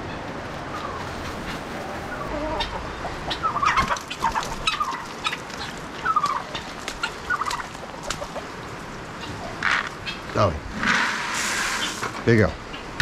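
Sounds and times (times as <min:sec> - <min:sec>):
poultry clucking: 0:00.0 - 0:13.0.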